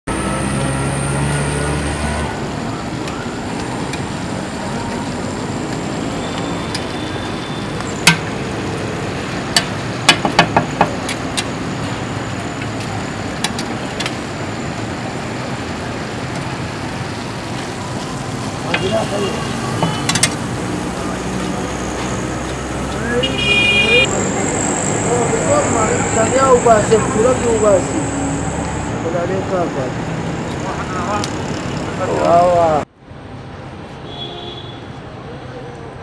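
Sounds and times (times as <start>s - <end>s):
vehicle engine humming: 0.0s - 32.8s
street traffic: 0.0s - 36.0s.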